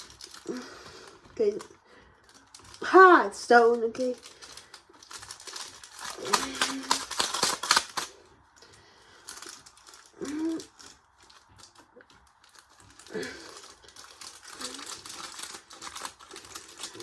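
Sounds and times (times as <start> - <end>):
hard objects rattling and clicking: 0.0 - 17.0.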